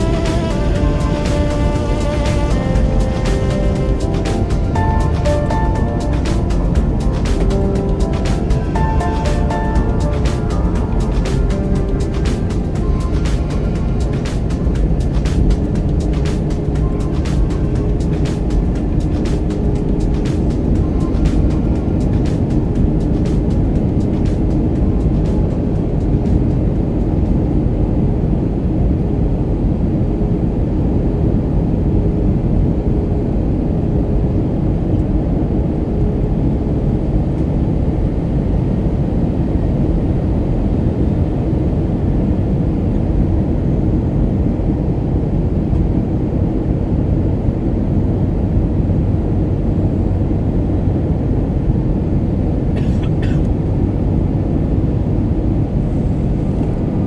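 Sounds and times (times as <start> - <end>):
airflow over fuselage: 0.0 - 57.0
airplane engine drone: 0.0 - 57.0.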